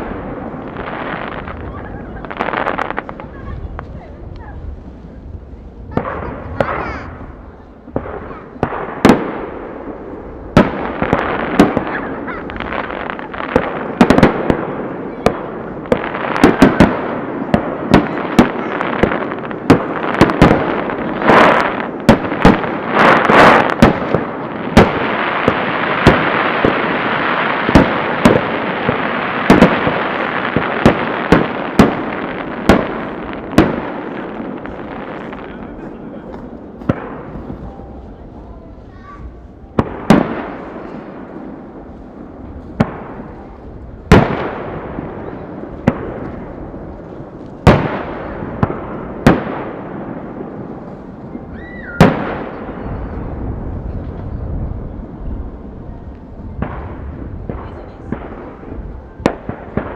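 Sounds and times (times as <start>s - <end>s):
firework crackling rush: 0.0s - 59.9s.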